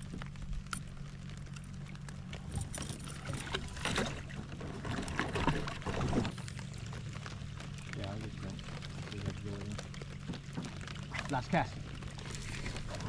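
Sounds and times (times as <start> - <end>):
boat motor humming: 0.0 - 13.0
water splashing: 0.0 - 13.0.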